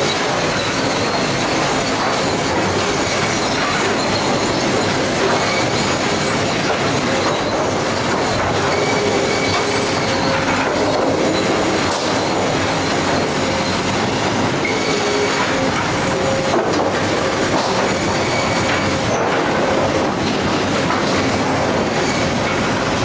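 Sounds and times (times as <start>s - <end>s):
faint machine whines: 0.0s - 23.0s
sawmill machinery clattering: 0.0s - 23.0s.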